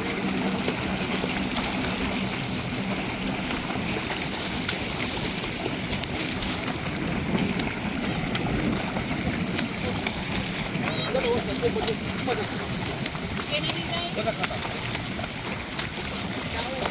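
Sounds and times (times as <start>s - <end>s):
water sloshing around a boat: 0.0s - 16.9s.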